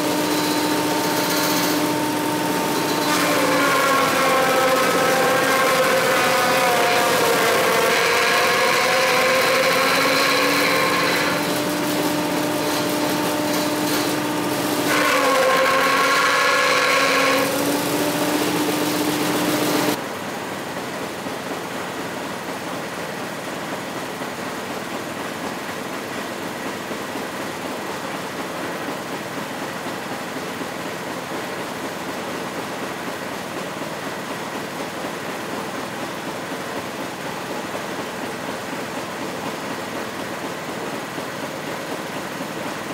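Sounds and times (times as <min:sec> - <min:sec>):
decorticating machine running: 0:00.0 - 0:42.9
fibre-stripping machine running: 0:00.0 - 0:42.9.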